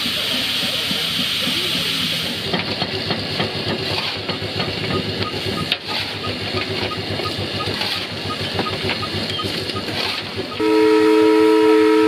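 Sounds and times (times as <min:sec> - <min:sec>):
steam hissing: 0:00.0 - 0:10.6
stationary engine beating: 0:00.2 - 0:10.6.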